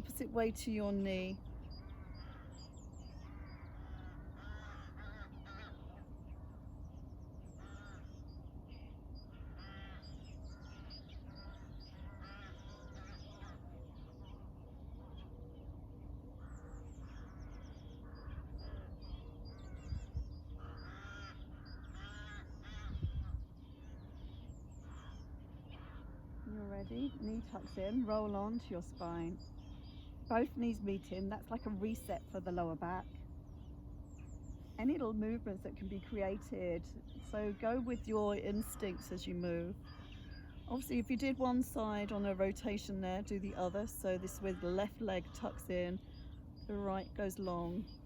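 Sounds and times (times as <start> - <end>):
birds singing and calling: 0.0 - 48.0
steady low rumble: 0.0 - 48.0.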